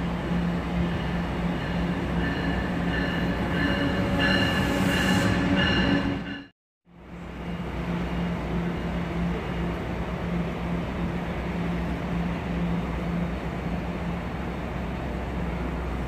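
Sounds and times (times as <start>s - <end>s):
diesel locomotive drone and rumble: 0.0s - 16.0s.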